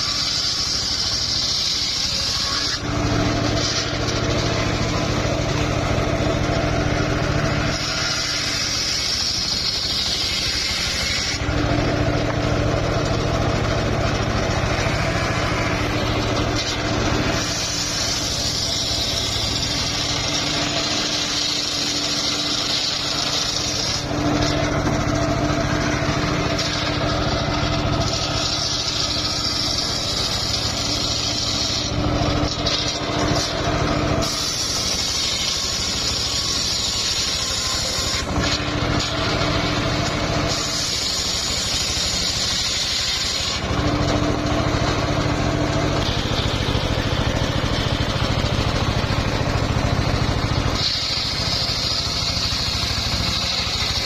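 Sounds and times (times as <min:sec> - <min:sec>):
sawmill blade cutting wood: 0:00.0 - 0:54.0.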